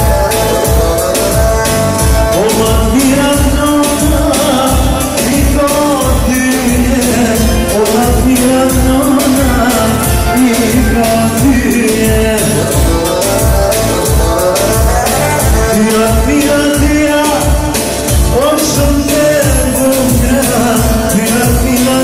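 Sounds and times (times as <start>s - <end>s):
steady beat: 0.0s - 22.0s.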